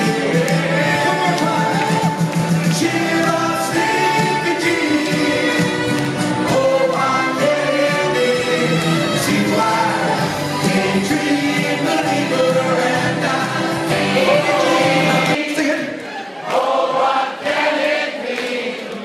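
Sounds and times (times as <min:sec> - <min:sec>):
music accompaniment: 0:00.0 - 0:15.4
group of voices singing: 0:00.0 - 0:19.0.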